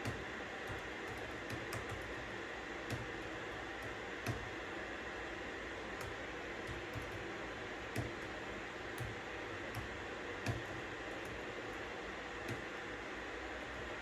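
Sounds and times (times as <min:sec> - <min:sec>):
computer keyboard keystrokes: 0:00.0 - 0:04.6, 0:06.0 - 0:12.8.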